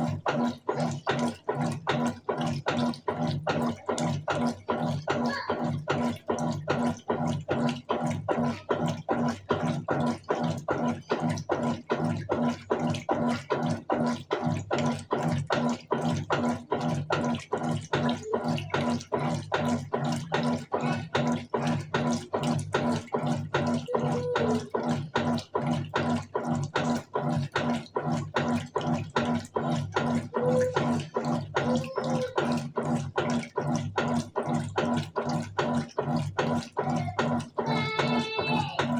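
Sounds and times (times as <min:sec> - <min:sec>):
washing machine agitator churning: 0:00.0 - 0:38.9
washing machine motor humming: 0:00.0 - 0:38.9
water sloshing: 0:00.0 - 0:38.9.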